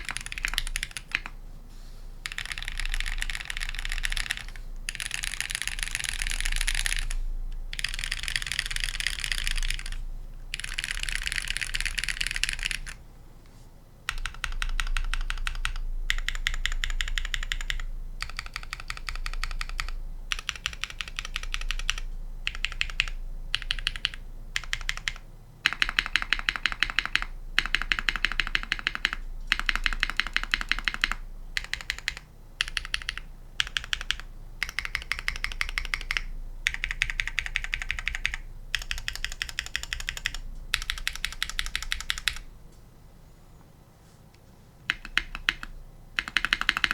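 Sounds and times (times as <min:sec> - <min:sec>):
fast typing on mechanical keyboard: 0:00.0 - 0:01.4, 0:02.2 - 0:13.0, 0:14.1 - 0:42.5, 0:44.8 - 0:46.9.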